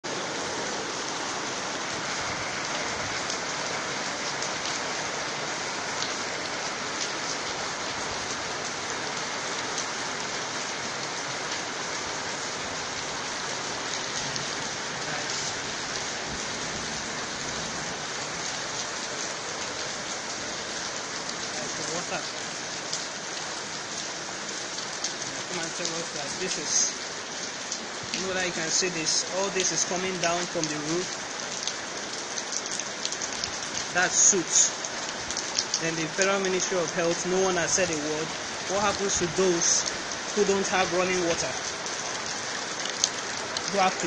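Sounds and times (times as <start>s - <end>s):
rain on paving stones: 0.0s - 44.0s.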